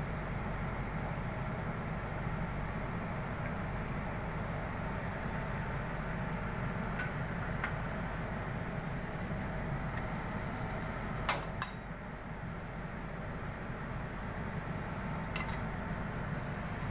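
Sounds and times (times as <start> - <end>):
low background hum: 0.0 - 16.9.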